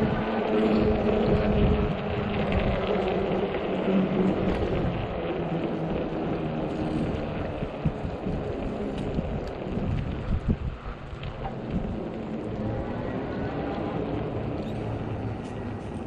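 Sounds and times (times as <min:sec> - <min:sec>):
e-bike low hum: 0:00.0 - 0:16.0
wind rushing over microphone: 0:00.0 - 0:16.0.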